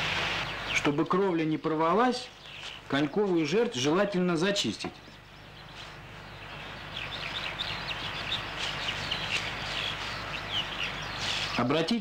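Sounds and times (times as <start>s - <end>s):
steady hiss: 0.0s - 3.6s, 5.6s - 12.0s
small birds chirping: 0.0s - 12.0s.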